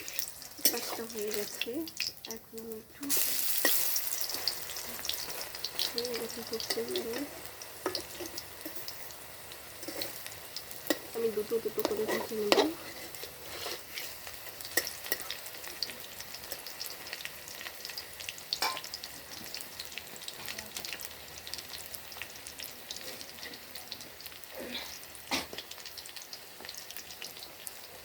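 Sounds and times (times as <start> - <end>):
fritters sizzling in hot oil: 0.0 - 28.0.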